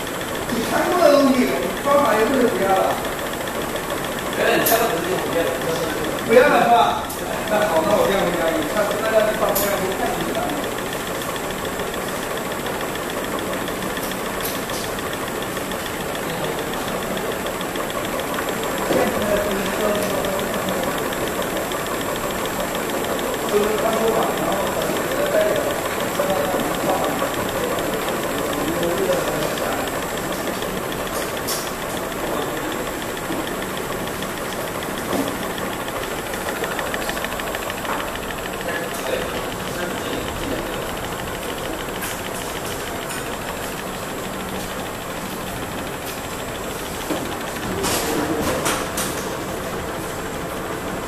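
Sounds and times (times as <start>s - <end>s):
fast even ticking: 0.0s - 48.4s
machine whirring with high whine: 0.0s - 51.0s.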